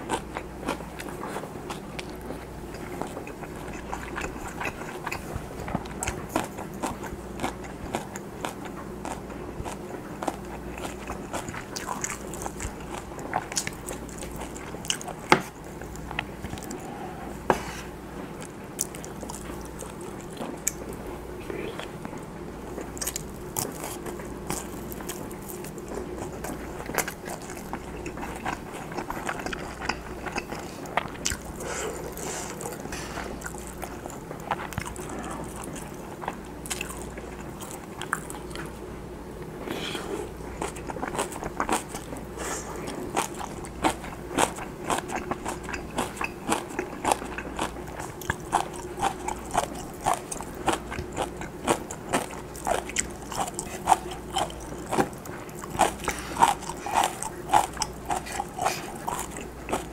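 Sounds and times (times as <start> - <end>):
faint steady hum: 0.0 - 59.9
man chewing: 0.0 - 59.9.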